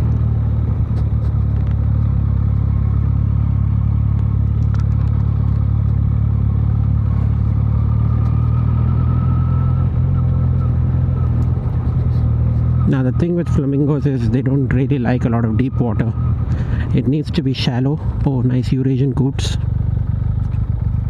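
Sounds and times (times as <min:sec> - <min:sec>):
motorcycle engine running steadily: 0:00.0 - 0:21.0.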